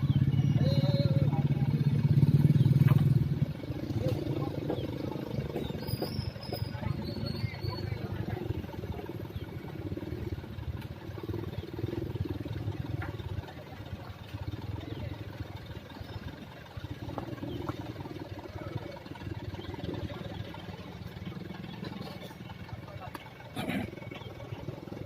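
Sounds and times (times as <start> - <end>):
diesel truck engine rumbling: 0.0 - 25.0.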